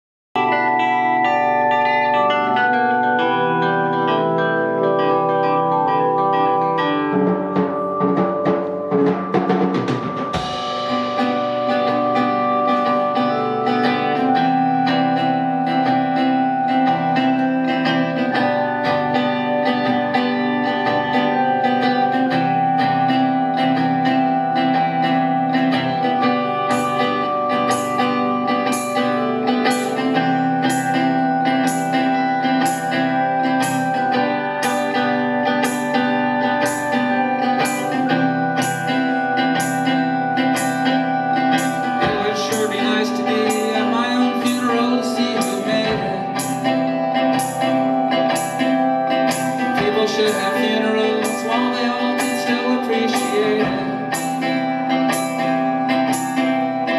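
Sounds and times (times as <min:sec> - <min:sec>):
rock band playing: 0:00.4 - 0:56.9
cymbal beat: 0:02.2 - 0:56.9.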